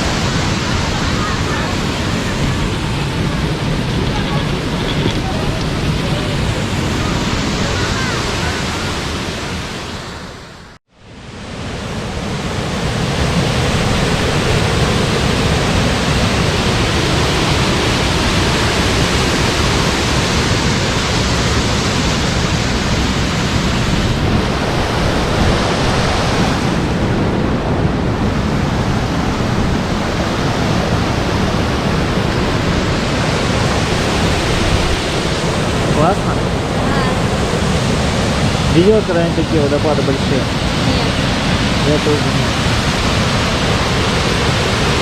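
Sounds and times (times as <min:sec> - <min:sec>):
waterfall roar: 0:00.0 - 0:45.0.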